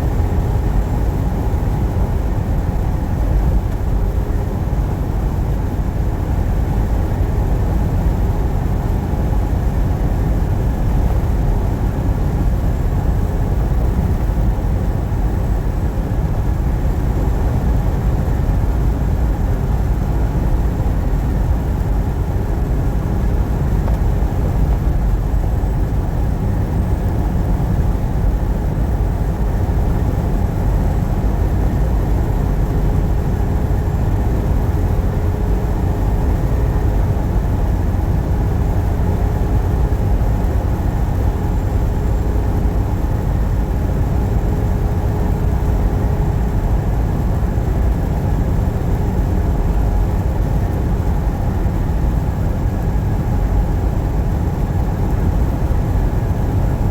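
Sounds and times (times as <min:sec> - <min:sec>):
truck engine and road rumble: 0:00.0 - 0:56.9.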